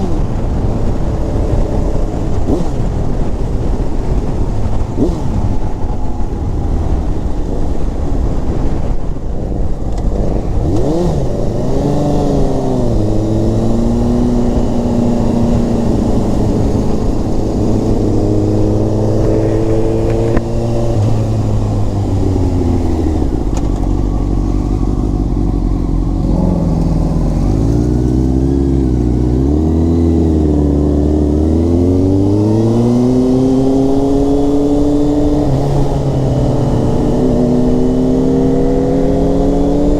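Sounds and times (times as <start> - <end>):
motorcycle engine revving: 0.0 - 39.9
wind rumble: 0.0 - 39.9.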